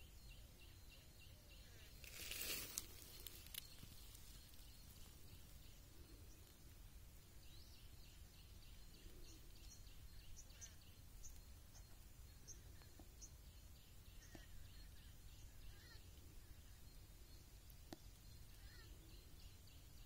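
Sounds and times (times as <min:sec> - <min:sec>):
faint low outdoor rumble: 0:00.0 - 0:20.0
small birds chirping: 0:00.0 - 0:20.0.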